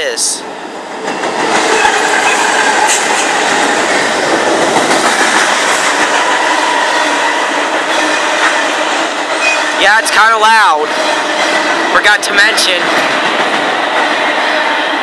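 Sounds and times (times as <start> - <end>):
train wheels rumbling on rails: 0.2 - 15.0.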